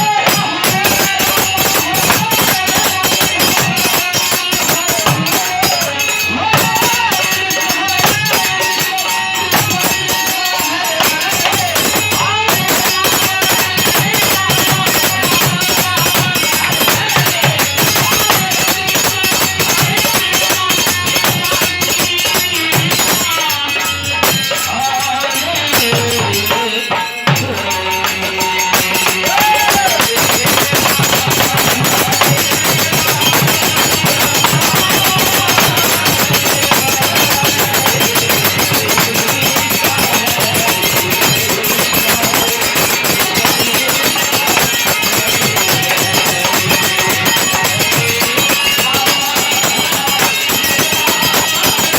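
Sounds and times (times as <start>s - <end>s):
jingling hand percussion: 0.0s - 51.9s.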